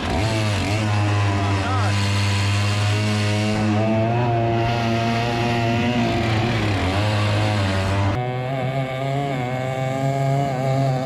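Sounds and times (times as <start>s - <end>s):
boat engine at high revs: 0.0s - 11.0s.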